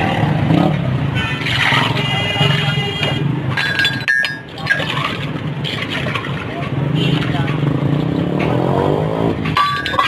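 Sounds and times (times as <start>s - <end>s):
vehicle engines humming: 0.0s - 10.0s.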